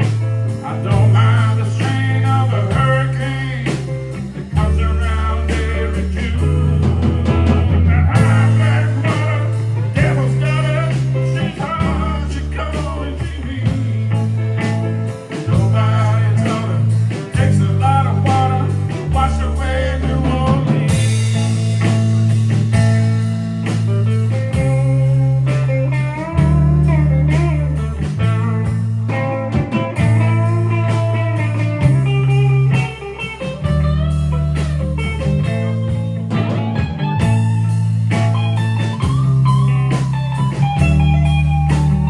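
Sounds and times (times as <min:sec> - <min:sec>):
band playing blues-rock: 0:00.0 - 0:42.0
lead guitar melody: 0:00.0 - 0:42.0.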